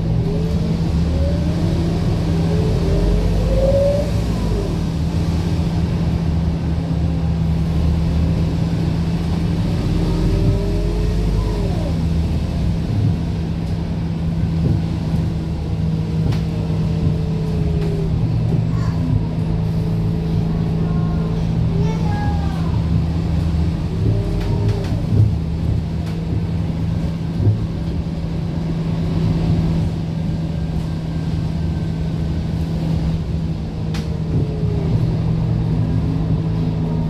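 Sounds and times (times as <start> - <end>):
bus engine drone: 0.0 - 37.0
road rumble: 0.0 - 37.0.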